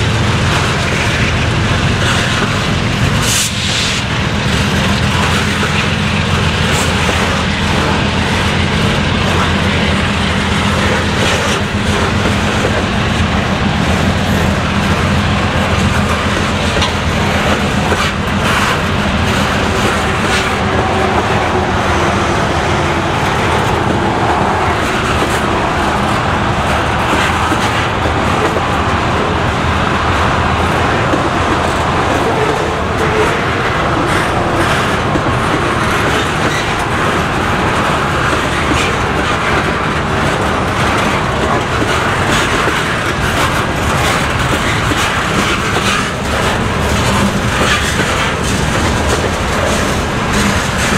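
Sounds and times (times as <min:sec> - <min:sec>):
freight train cars rolling past: 0:00.0 - 0:50.9.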